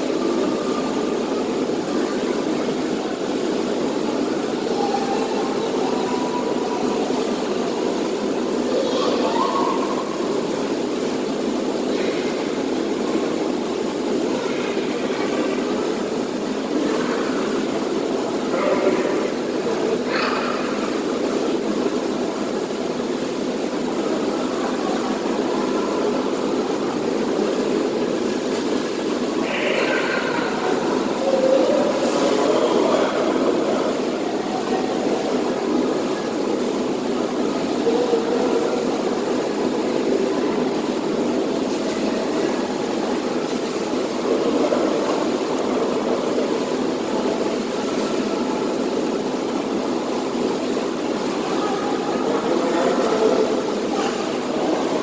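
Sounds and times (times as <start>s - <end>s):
faint voices: 0.0s - 55.0s
steady mechanical hum: 0.0s - 55.0s.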